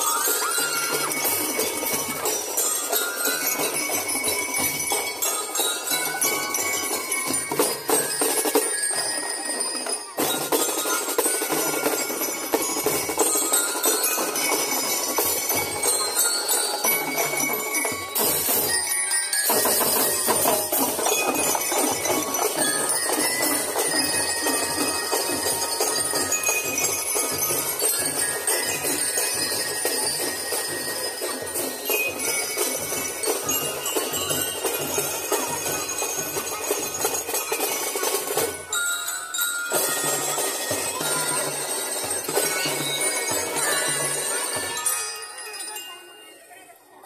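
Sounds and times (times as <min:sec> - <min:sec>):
bell lyres ringing melody: 0:00.0 - 0:47.0.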